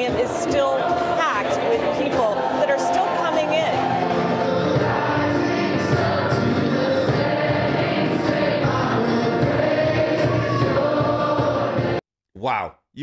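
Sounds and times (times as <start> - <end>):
group singing worship song: 0.0 - 12.0.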